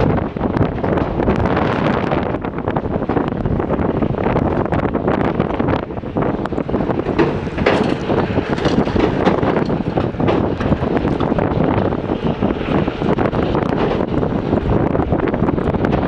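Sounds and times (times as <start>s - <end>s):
wind buffeting microphone: 0.0s - 16.0s
backhoe diesel engine running: 3.0s - 16.0s.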